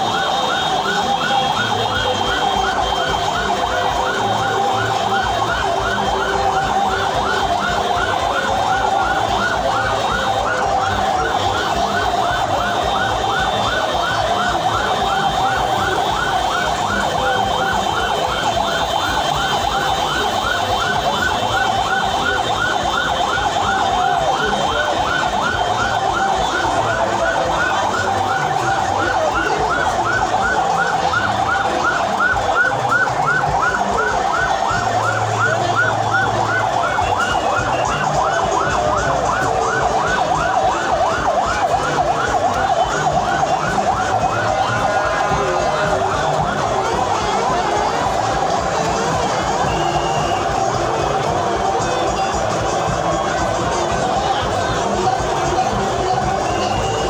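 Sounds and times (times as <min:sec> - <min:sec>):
large crowd din: 0:00.0 - 0:57.0
vehicle siren yelping: 0:00.0 - 0:57.0.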